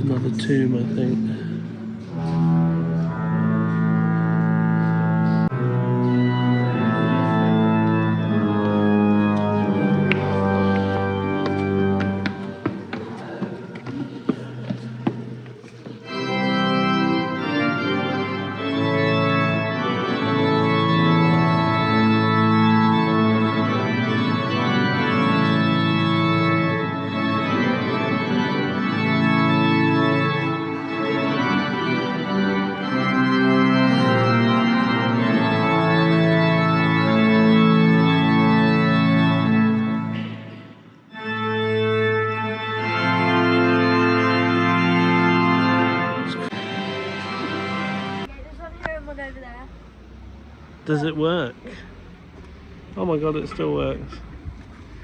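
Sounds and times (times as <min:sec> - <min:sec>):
organ playing held chords: 0:00.0 - 0:55.0.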